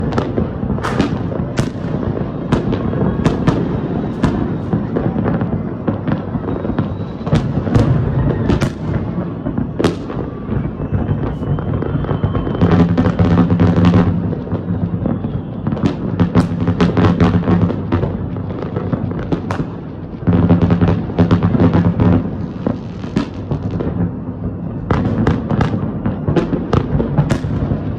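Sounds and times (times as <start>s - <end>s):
fireworks bangs: 0.0s - 27.9s.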